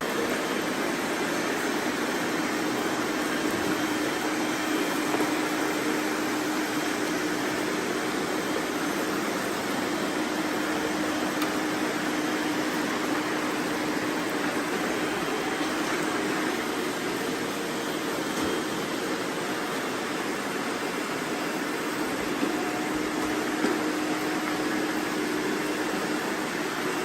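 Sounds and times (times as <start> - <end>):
robot vacuums whirring: 0.0 - 27.0.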